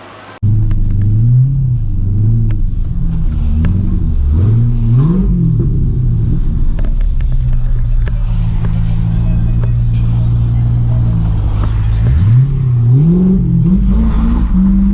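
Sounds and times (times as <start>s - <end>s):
loud car engine revving: 0.4s - 14.9s.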